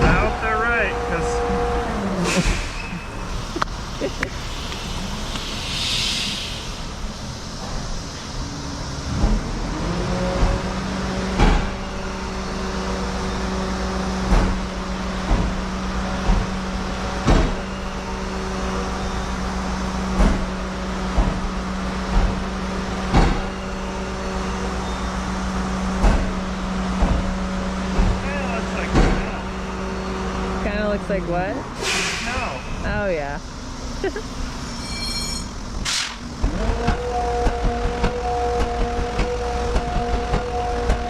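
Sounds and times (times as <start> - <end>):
truck steady hum: 0.0 - 41.0.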